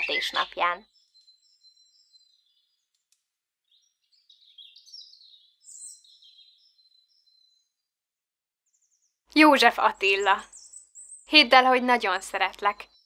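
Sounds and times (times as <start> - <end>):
small songbirds chirping: 0.0 - 7.9, 8.6 - 13.0.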